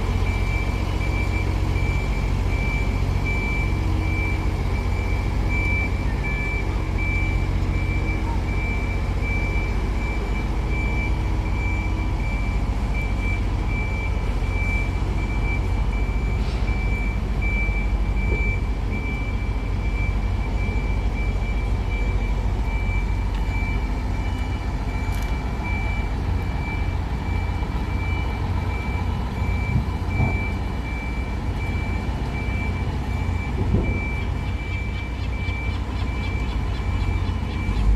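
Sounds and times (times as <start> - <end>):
low vehicle rumble: 0.0 - 37.9
vehicle warning beeper: 0.0 - 37.9.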